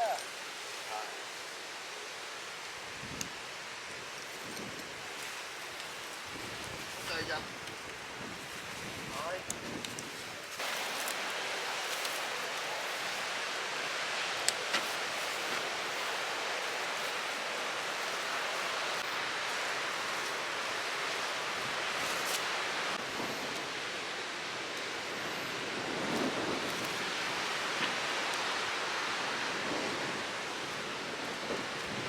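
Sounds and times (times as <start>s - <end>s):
surf on a beach: 0.0s - 32.0s
wind: 0.0s - 32.0s.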